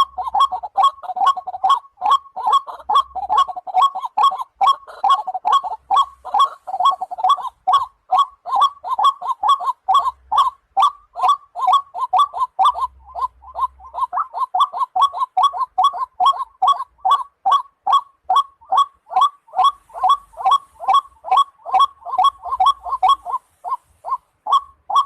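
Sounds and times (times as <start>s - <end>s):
waterhen calling hoarse notes: 0.0s - 25.0s.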